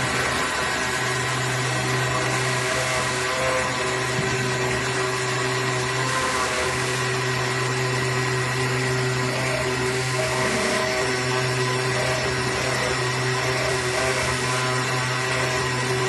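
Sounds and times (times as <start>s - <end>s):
cutting machine whirring: 0.0s - 16.0s.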